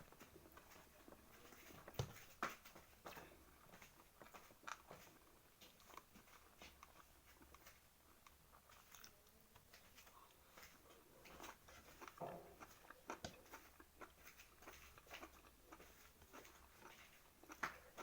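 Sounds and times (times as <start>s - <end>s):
person chewing: 3.1s - 18.0s.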